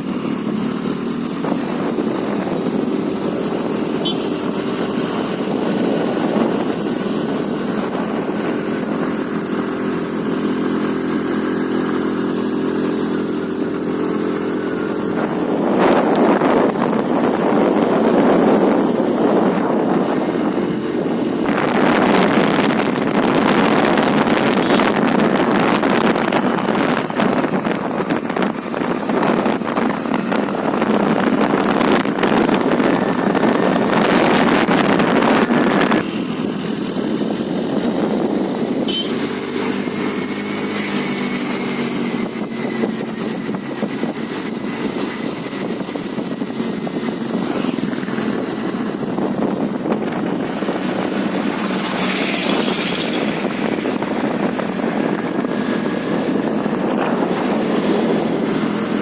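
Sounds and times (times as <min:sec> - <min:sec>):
scooter engine running: 0:00.0 - 0:59.0
wind on microphone: 0:00.0 - 0:59.0.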